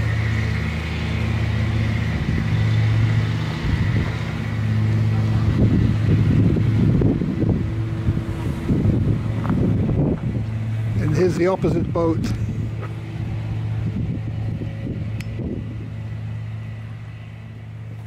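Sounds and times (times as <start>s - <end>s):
irregular rumbling noise: 0.0s - 18.0s
low mechanical hum: 0.0s - 18.0s.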